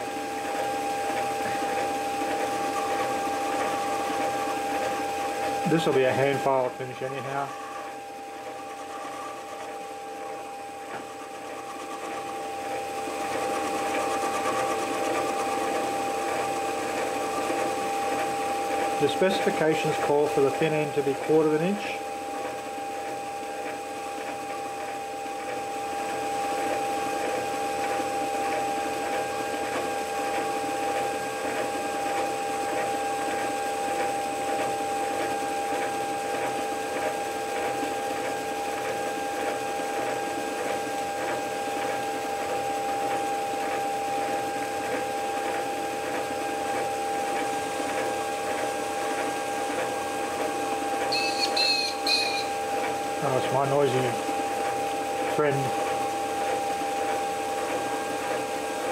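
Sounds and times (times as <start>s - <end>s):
metal lathe whining: 0.0s - 58.9s.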